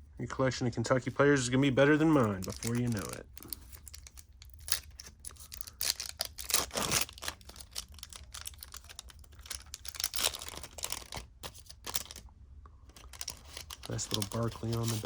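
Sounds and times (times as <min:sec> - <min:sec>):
trading cards clicking and rustling: 0:01.7 - 0:12.2, 0:12.9 - 0:15.0.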